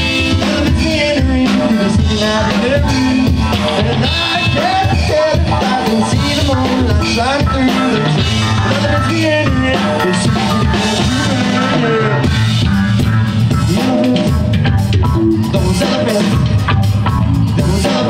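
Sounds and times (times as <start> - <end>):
bass line: 0.0 - 18.0
drum kit: 0.0 - 18.0
electric guitar: 0.0 - 18.0.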